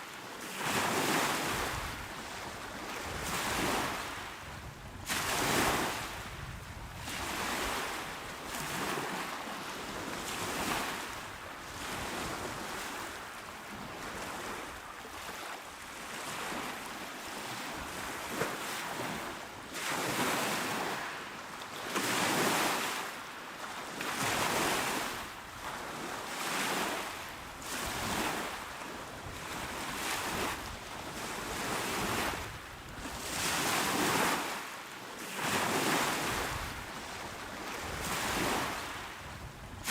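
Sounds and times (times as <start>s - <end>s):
small waves washing onto shore: 0.0s - 39.9s.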